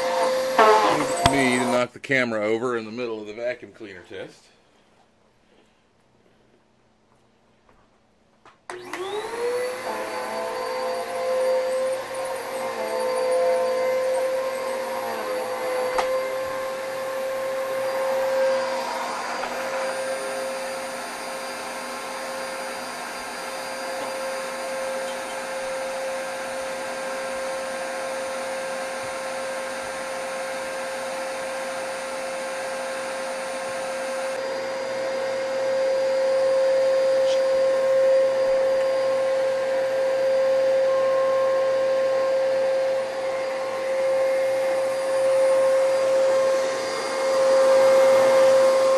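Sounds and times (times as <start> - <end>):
vacuum cleaner running: 0.0 - 1.9, 8.7 - 48.9.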